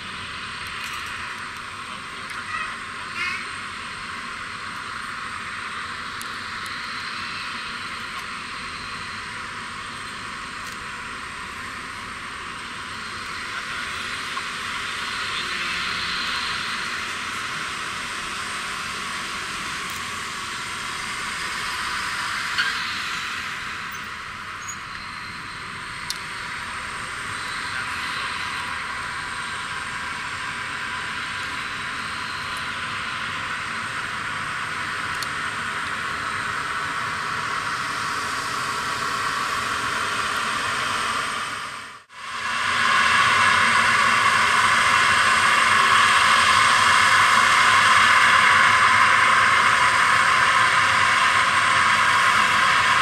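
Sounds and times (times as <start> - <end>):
jet engine hiss and whine: 0.0 - 53.0.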